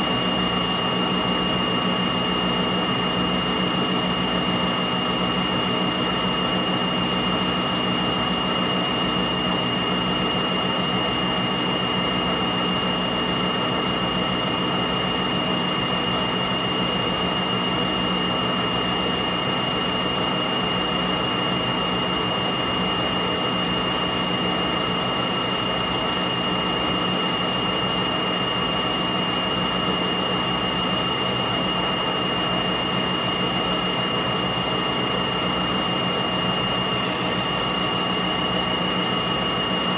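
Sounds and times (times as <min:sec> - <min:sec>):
metal lathe whining: 0:00.0 - 0:39.9.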